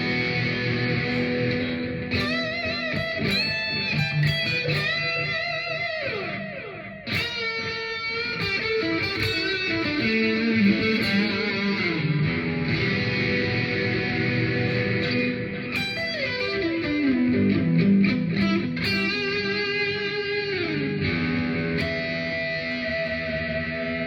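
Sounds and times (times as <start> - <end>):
overdriven electric guitar lead: 0.0 - 24.0.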